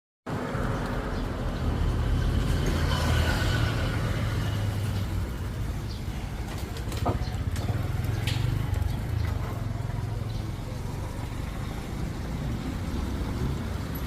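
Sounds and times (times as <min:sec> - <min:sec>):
motor traffic rumble: 0:00.3 - 0:14.0
street noise: 0:00.3 - 0:14.0.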